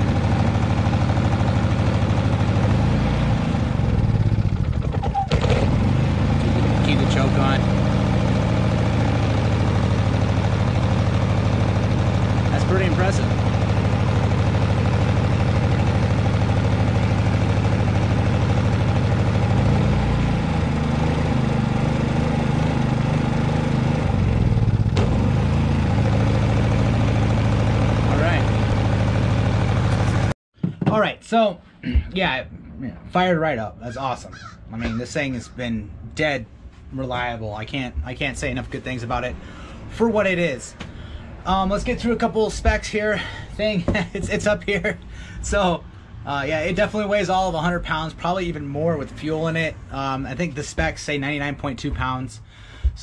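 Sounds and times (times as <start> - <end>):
generator engine running: 0.0 - 31.1, 36.1 - 53.0.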